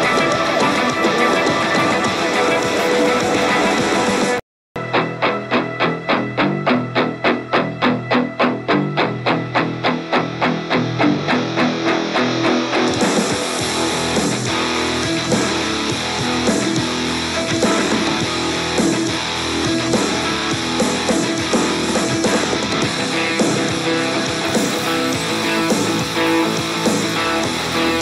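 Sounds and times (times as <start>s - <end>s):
plucked guitar music with band: 0.0s - 28.0s.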